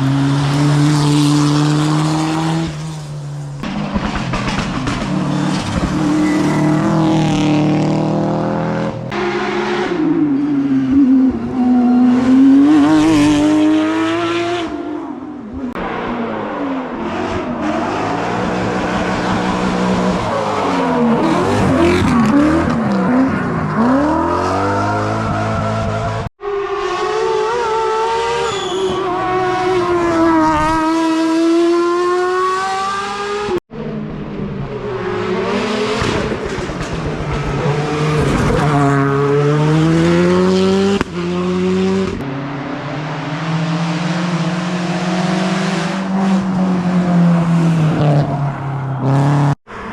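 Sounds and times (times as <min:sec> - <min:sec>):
rally car engines revving past: 0:00.0 - 0:49.9.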